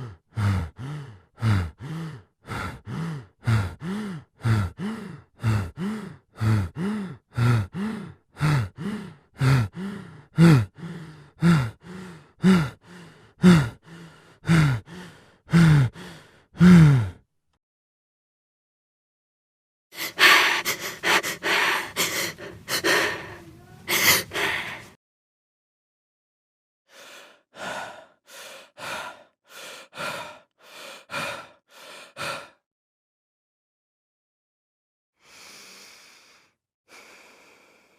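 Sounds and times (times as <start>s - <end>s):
person breathing heavily with voice: 0.0s - 17.2s, 20.0s - 25.0s, 26.9s - 32.6s, 35.2s - 37.9s.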